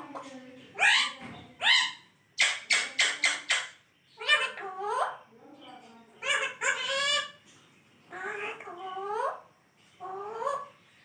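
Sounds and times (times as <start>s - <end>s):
parakeet talking: 0.0s - 7.4s, 8.1s - 10.7s.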